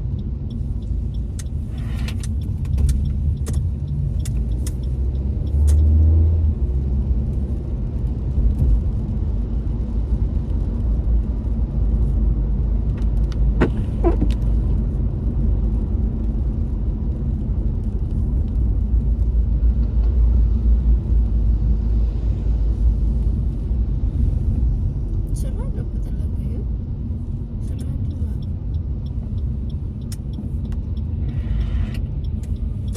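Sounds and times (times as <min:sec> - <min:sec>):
road and engine rumble inside car: 0:00.0 - 0:32.9.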